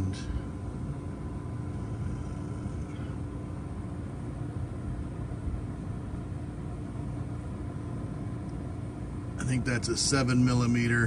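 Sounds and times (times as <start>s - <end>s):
motor rumbling and humming: 0.0s - 11.0s.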